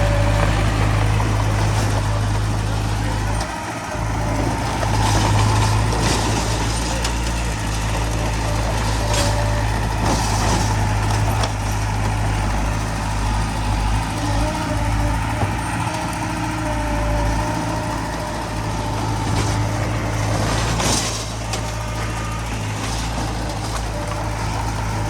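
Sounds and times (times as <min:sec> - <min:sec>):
heavy machinery diesel engine running: 0:00.0 - 0:25.0.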